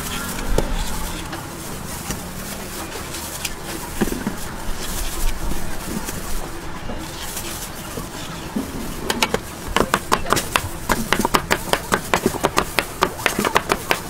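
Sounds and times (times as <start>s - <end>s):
busy street stall background: 0.0s - 14.0s
faint voices: 0.0s - 14.0s.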